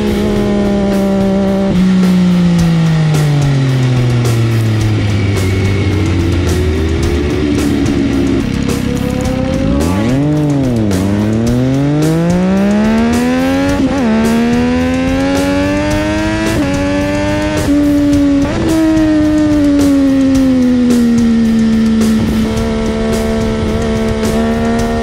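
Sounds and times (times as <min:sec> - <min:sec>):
motorcycle engine revving: 0:00.0 - 0:25.0
music: 0:00.0 - 0:25.0.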